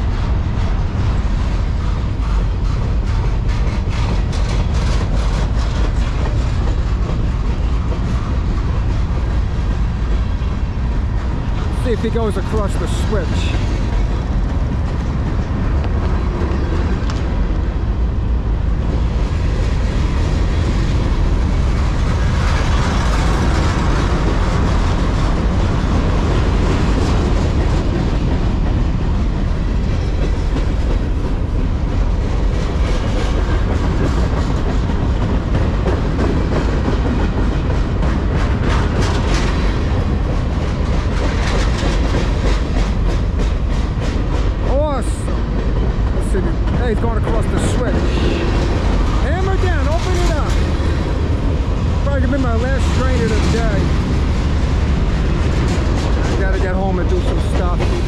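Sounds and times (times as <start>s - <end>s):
freight train rolling past: 0.0s - 58.0s
wheels clacking over rail joints: 0.0s - 58.0s.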